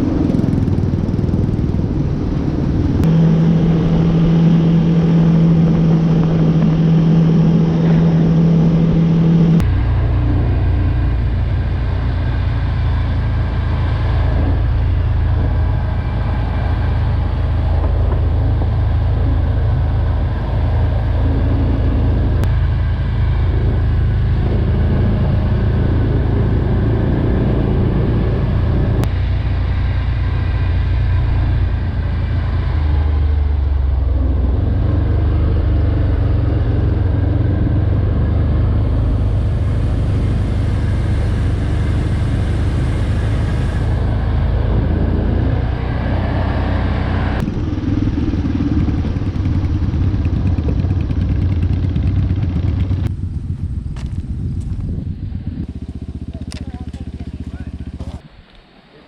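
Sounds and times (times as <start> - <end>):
atv engine running: 0.0 - 58.3.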